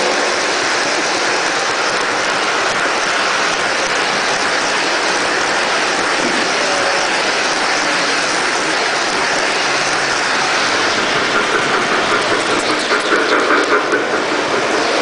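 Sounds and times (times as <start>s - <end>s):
model train wheels rolling on track: 0.0s - 15.0s.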